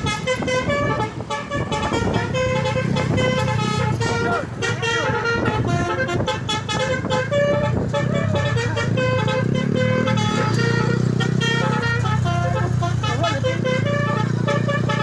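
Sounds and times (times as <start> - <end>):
bus engine running: 0.0 - 15.0
bus horn playing a tune: 0.0 - 15.0.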